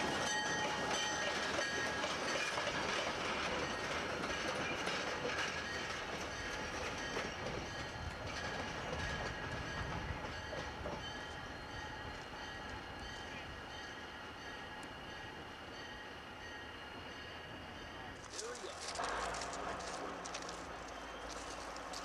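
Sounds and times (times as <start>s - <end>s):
diesel locomotive engines running: 0.0s - 22.0s.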